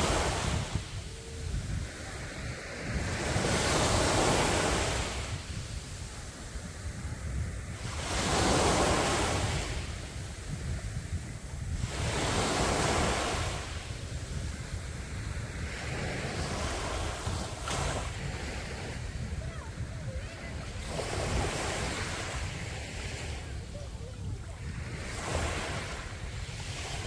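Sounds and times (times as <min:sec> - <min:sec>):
sea waves breaking on beach: 0:00.0 - 0:27.0
wind rumbling on microphone: 0:00.0 - 0:27.0.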